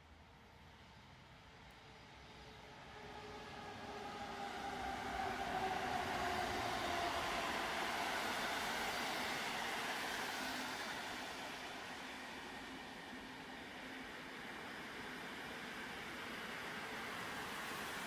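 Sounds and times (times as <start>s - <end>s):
electric locomotive motor whine: 1.6s - 18.0s
train rumble: 2.1s - 18.0s.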